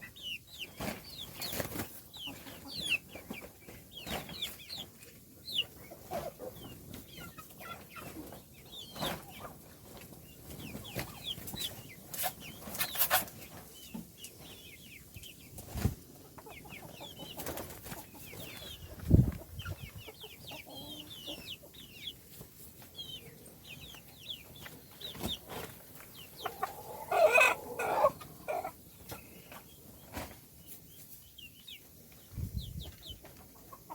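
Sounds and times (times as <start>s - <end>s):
baby chicks peeping: 0.0s - 33.9s.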